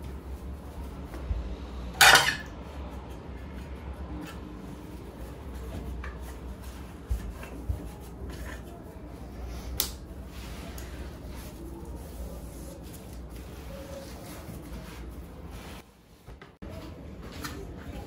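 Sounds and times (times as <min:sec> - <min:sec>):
soft rubbing and shuffling: 0:00.0 - 0:01.7, 0:02.6 - 0:18.0.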